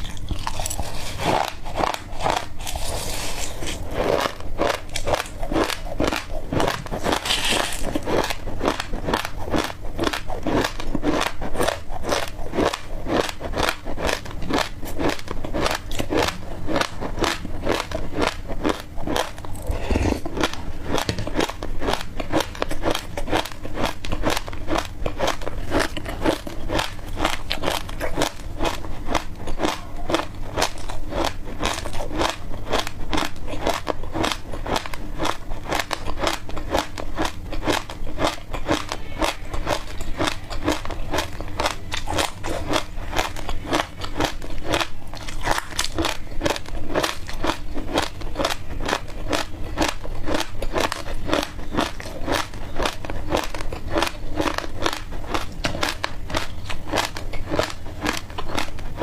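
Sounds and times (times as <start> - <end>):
chewing crunchy seeds: 0.0 - 59.0.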